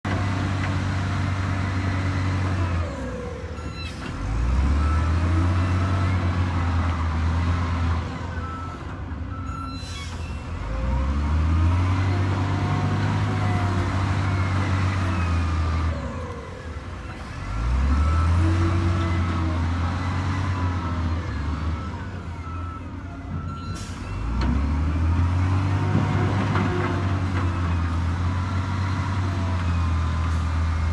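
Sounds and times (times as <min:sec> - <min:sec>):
bulldozer diesel engine revving: 0:00.1 - 0:09.4, 0:10.4 - 0:22.8, 0:23.4 - 0:30.9.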